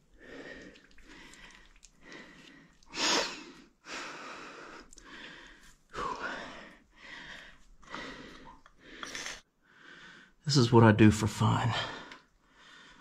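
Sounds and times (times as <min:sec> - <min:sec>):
man breathing heavily: 0:00.2 - 0:10.4, 0:11.8 - 0:13.0.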